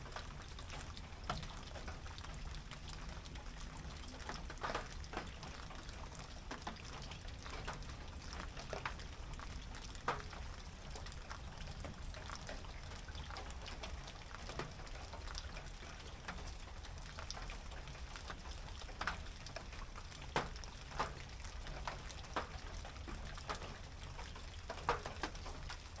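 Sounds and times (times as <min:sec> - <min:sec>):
rain on a tin roof: 0:00.0 - 0:26.0.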